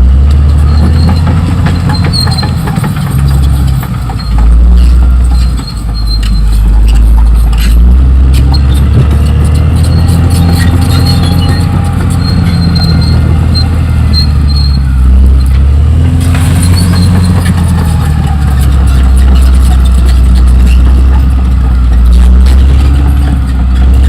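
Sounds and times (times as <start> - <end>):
diesel engine running loud: 0.0 - 24.0
steel tracks squealing: 0.1 - 24.0
steel tracks clanking: 0.6 - 24.0.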